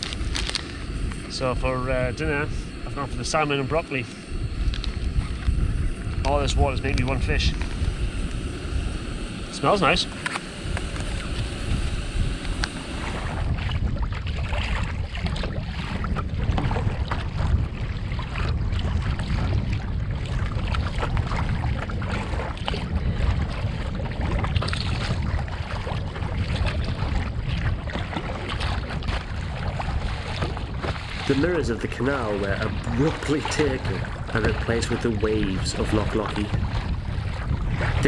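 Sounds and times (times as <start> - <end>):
water splashing against kayak: 0.0 - 38.0
wind buffeting microphone: 0.0 - 38.0.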